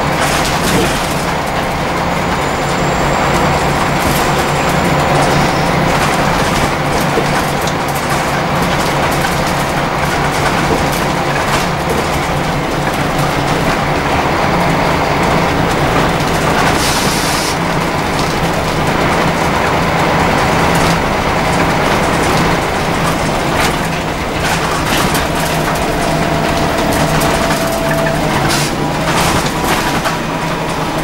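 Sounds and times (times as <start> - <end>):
bus diesel engine drone: 0.0 - 31.0
tyre and road noise: 0.0 - 31.0.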